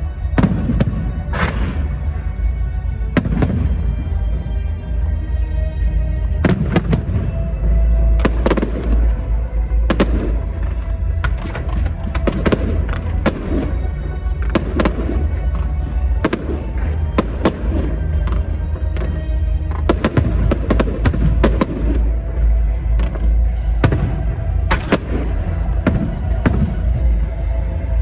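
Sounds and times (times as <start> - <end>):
music playing: 0.0 - 28.0
fireworks bursting with bangs: 0.2 - 2.1, 3.1 - 4.4, 6.3 - 27.9.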